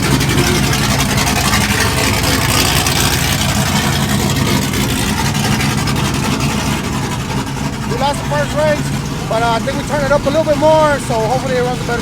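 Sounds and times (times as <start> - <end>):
race vehicle engine running: 0.0 - 12.0.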